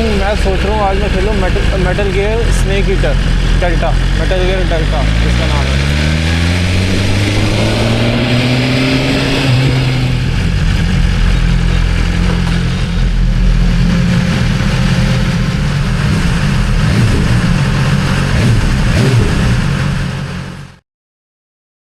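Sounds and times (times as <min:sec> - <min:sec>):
heavy low rumble: 0:00.0 - 0:20.8
motorcycle engine running: 0:00.0 - 0:20.8.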